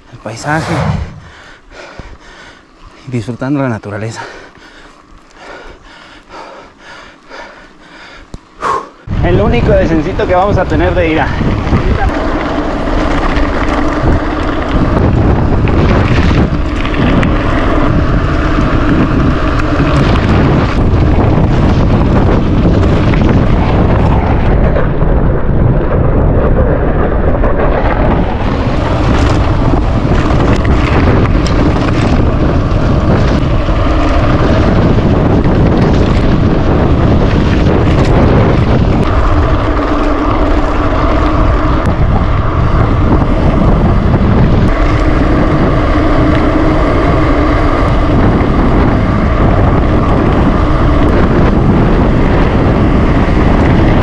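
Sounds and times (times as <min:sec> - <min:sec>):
road rumble: 0:00.0 - 0:54.0
wind rushing over microphone: 0:00.0 - 0:54.0.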